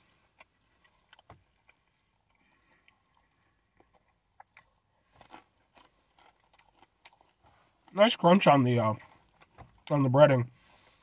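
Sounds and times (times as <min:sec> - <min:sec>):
chewing crispy fried chicken: 0:00.0 - 0:09.9.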